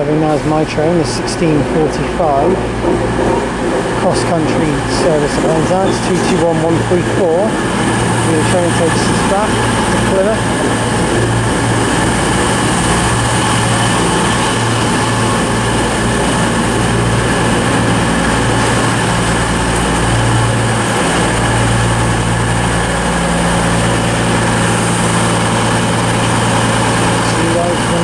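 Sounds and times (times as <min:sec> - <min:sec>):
high-pitched whines: 0:00.0 - 0:28.0
train engine low hum: 0:00.0 - 0:28.0.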